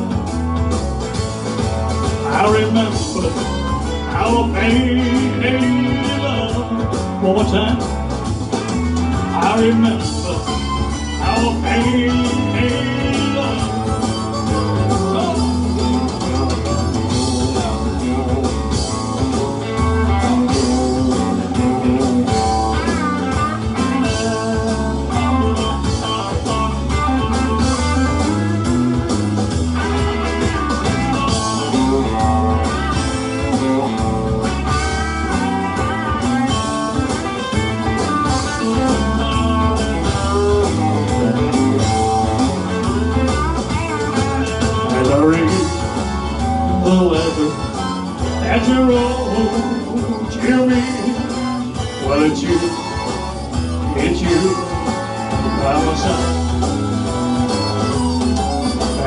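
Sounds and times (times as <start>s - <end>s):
guitar melody: 0.0s - 59.0s
slow country ballad by band: 0.0s - 59.0s.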